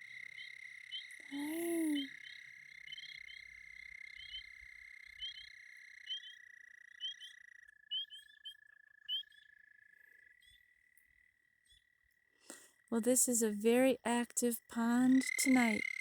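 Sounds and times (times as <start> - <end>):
frogs trilling: 0.0 - 11.8, 12.5 - 16.0
frogs chirping: 0.0 - 11.9, 14.1 - 16.0.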